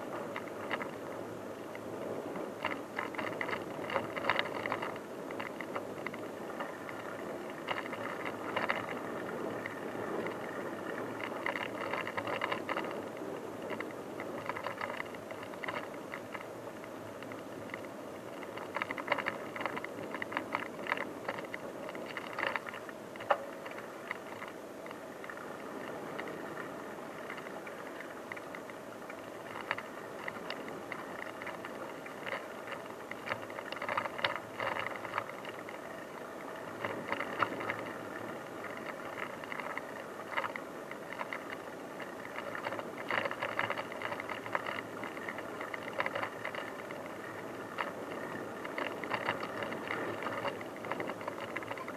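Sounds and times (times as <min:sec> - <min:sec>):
bike rattling and clicking: 0:00.0 - 0:01.1, 0:01.7 - 0:51.9
bicycle tyres rolling on dirt: 0:00.0 - 0:51.9.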